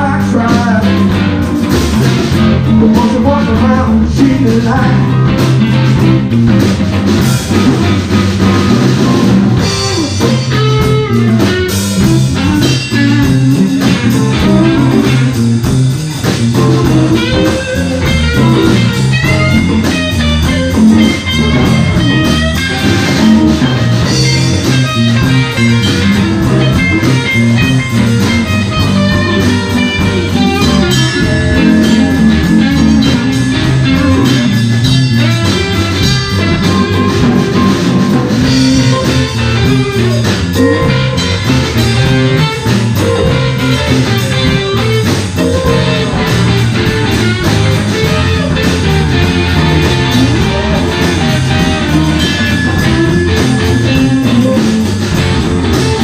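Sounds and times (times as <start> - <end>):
drum kit: 0.0 - 56.0
electric bass: 0.0 - 56.0
lead electric guitar bending notes: 0.0 - 56.0.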